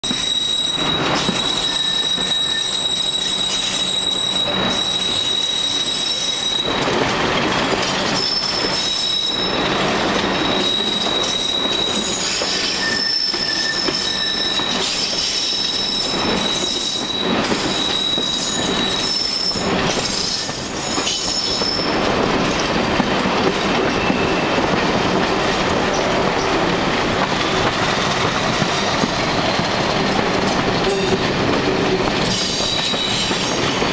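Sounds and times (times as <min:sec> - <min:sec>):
train brakes squealing: 0:00.0 - 0:22.8, 0:23.4 - 0:25.1, 0:30.7 - 0:33.9
train rolling rumble: 0:00.0 - 0:33.9.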